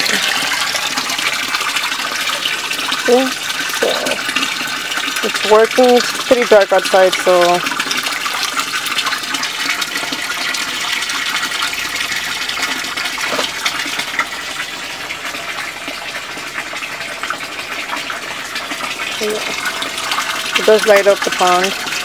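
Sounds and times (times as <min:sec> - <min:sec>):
water splashing into pond: 0:00.0 - 0:22.0.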